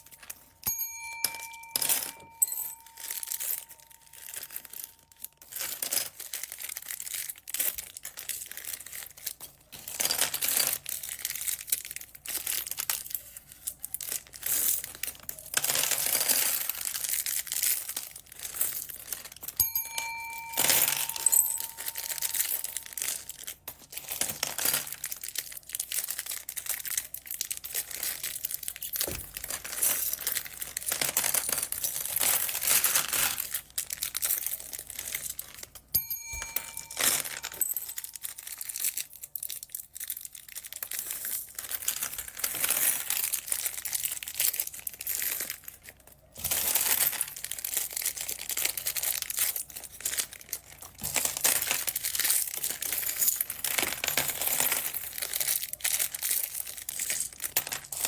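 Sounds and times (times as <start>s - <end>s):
plastic bags crinkling: 1.3s - 58.0s.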